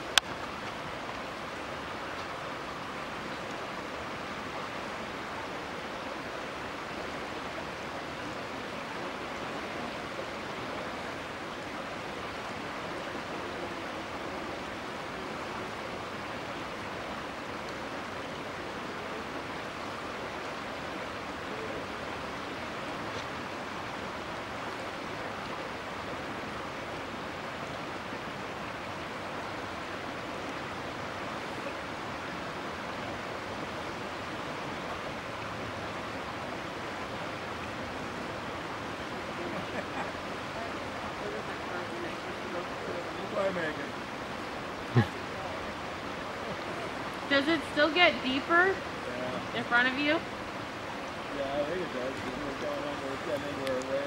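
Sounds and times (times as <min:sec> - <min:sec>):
river floodwater rushing: 0:00.0 - 0:54.0.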